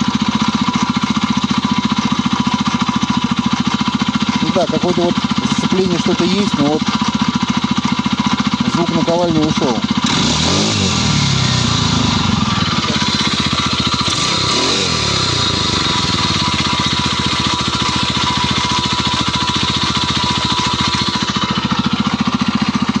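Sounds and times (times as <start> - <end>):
four-stroke engine running: 0.0 - 23.0.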